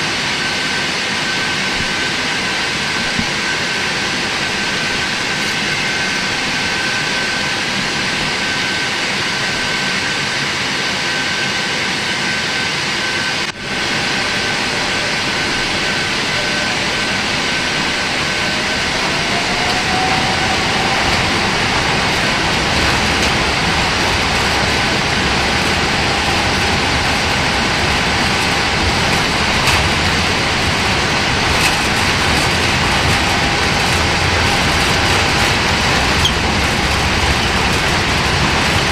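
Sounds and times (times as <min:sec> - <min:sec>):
jet engine hum and whine: 0:00.0 - 0:38.9
low takeoff roll rumble: 0:00.0 - 0:38.9.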